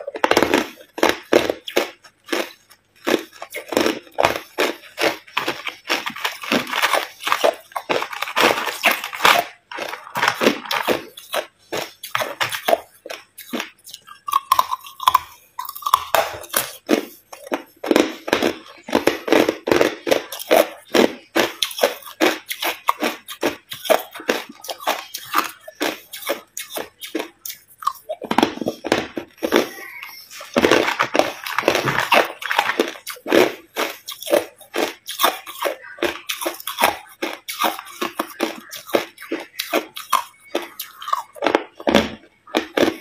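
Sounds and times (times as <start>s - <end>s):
ice being chewed: 0.0s - 43.0s.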